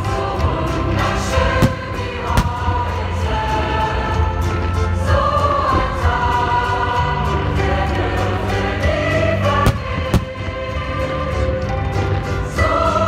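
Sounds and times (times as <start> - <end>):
choral music: 0.0 - 13.0.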